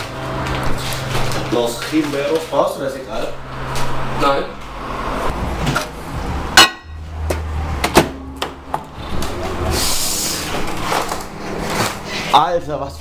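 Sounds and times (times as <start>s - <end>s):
microwave oven humming: 0.0s - 4.8s, 5.6s - 13.0s.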